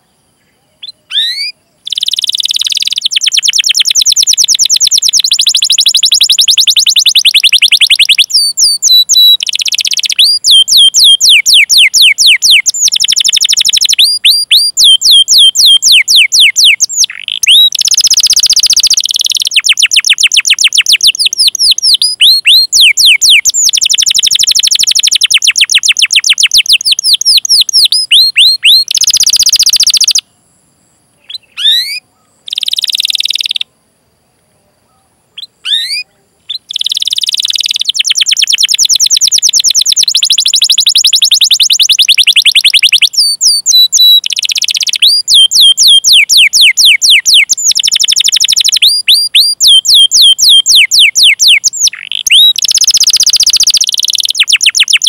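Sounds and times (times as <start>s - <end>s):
canary singing trills: 0.0s - 30.3s, 31.1s - 33.7s, 34.6s - 55.0s.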